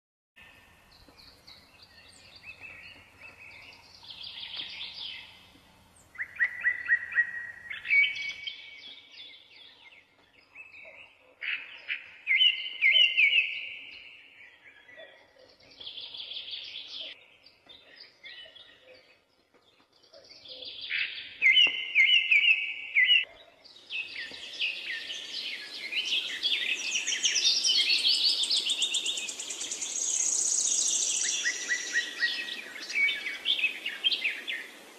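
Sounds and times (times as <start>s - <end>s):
songbirds singing: 0.4s - 34.9s.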